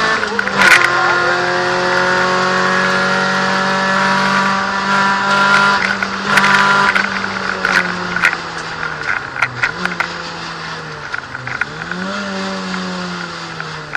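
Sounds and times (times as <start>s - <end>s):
car engine from inside cabin: 0.0s - 13.9s.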